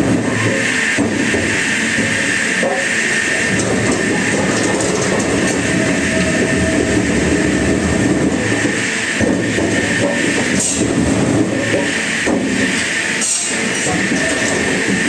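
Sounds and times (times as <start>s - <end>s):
wood-cutting machinery running: 0.0s - 15.0s.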